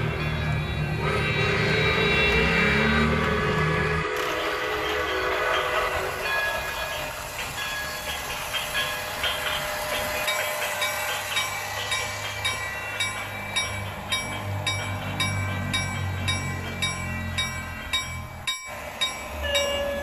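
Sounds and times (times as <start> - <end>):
train running: 0.0 - 20.0.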